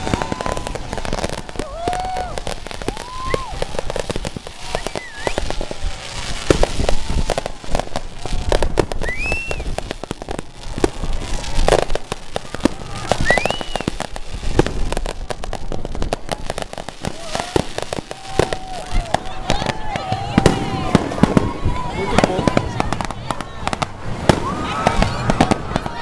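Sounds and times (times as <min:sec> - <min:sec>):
fireworks cracking and banging: 0:00.0 - 0:26.0.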